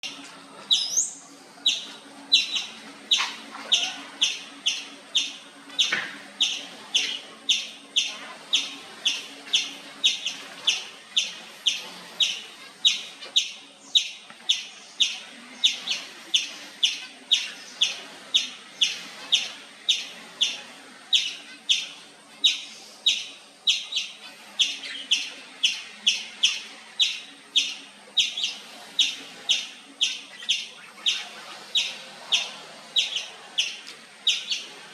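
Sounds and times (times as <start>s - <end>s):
squirrel chirping: 0.0s - 34.9s.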